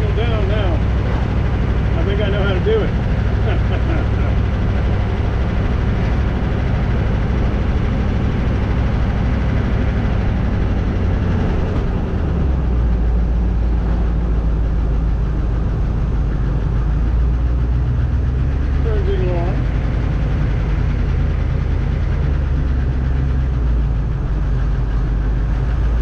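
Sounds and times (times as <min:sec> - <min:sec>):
diesel engine running: 0:00.0 - 0:26.0
road noise: 0:00.0 - 0:26.0.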